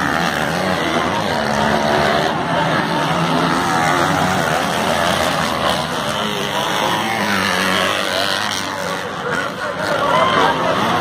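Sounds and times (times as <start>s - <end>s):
racing motorcycles revving: 0.0s - 11.0s.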